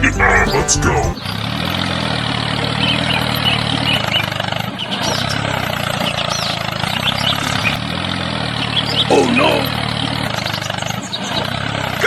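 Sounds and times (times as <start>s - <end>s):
small tractor engine humming: 0.0s - 12.0s.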